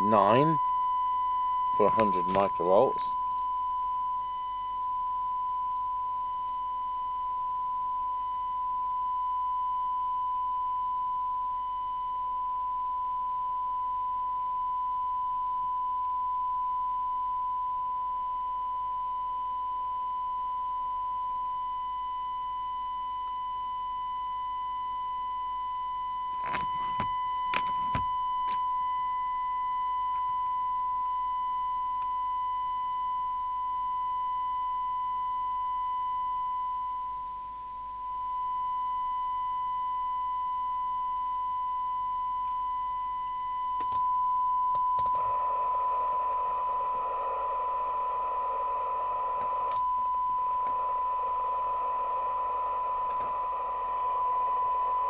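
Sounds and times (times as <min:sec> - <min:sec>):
test tone from loudspeaker: 0:00.0 - 0:55.0.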